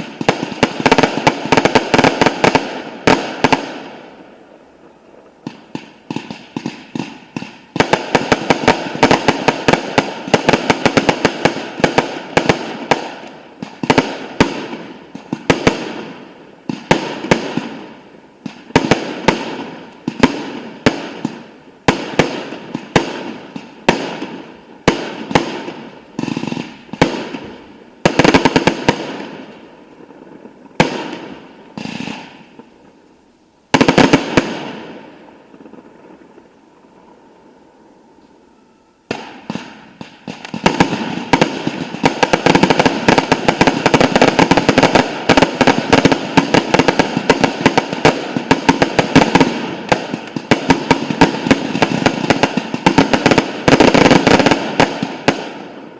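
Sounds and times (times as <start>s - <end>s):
firework crackling: 0.0s - 55.9s.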